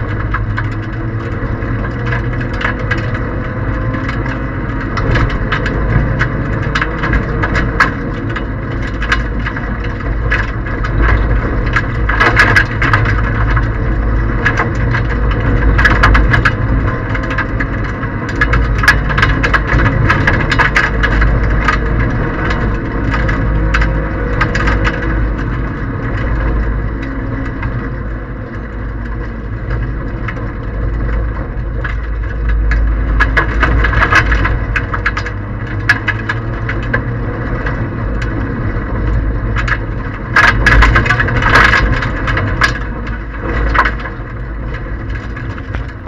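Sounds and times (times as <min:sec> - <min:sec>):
car engine running hard: 0:00.0 - 0:46.0
gravel clattering against car underside: 0:00.0 - 0:46.0.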